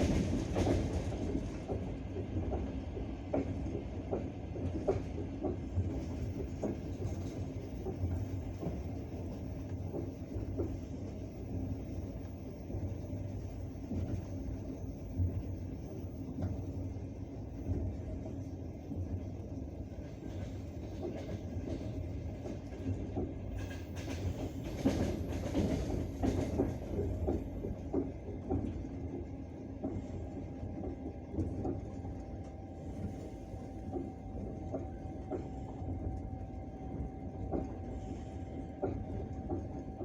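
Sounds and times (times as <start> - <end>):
train rumble inside carriage: 0.0 - 40.0.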